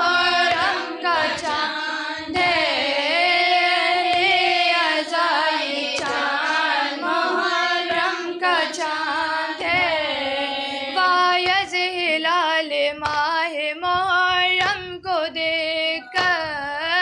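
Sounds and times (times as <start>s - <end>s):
woman chanting a lament: 0.0s - 17.0s.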